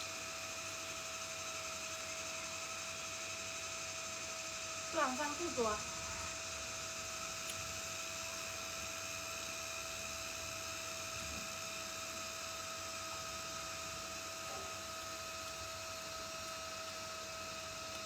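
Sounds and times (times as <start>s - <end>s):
constant high whine: 0.0s - 18.0s
steady hum and hiss: 0.0s - 18.0s.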